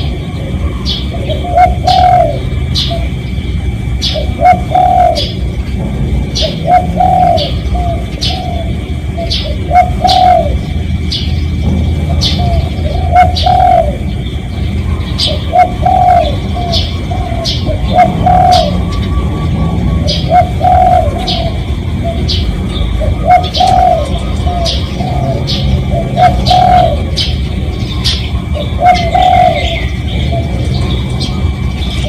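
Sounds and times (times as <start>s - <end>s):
dove cooing: 0.0s - 32.0s
low background rumble: 0.0s - 32.0s
small birds chirping: 0.0s - 32.0s.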